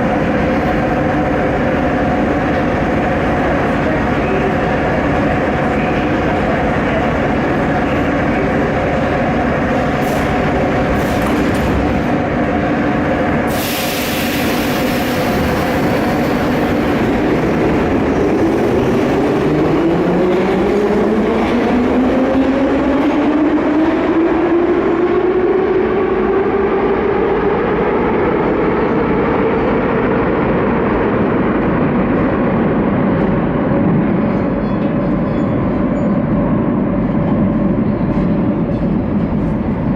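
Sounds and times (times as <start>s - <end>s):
rising train motor whine: 0.0s - 39.9s
train rail noise: 0.0s - 39.9s.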